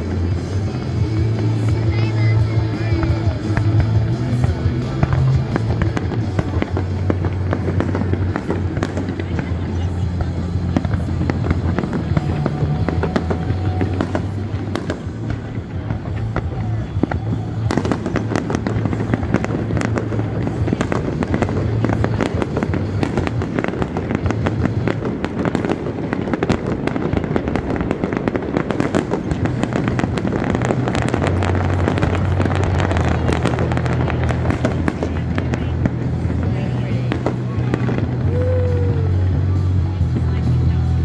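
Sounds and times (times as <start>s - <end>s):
fireworks bangs and crackles: 0.0s - 41.0s.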